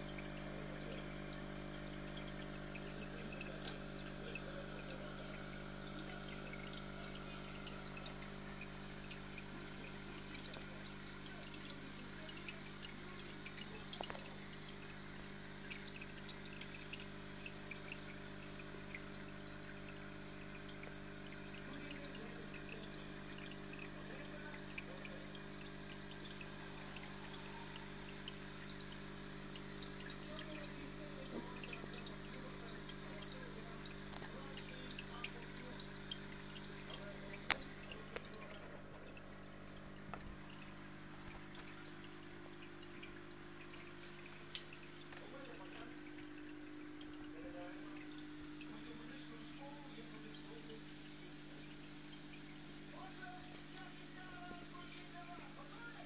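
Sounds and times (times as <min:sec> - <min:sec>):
electric pump hum: 0:00.0 - 0:56.0
water trickling and splashing: 0:00.0 - 0:56.0.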